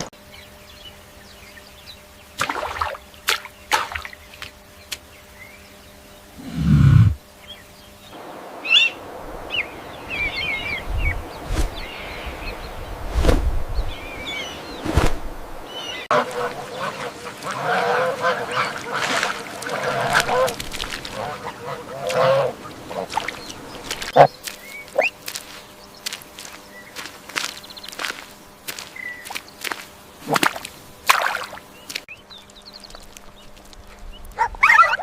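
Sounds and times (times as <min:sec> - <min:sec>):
small birds chirping: 0:00.0 - 0:13.1, 0:13.7 - 0:35.0
faint hum: 0:00.0 - 0:35.0.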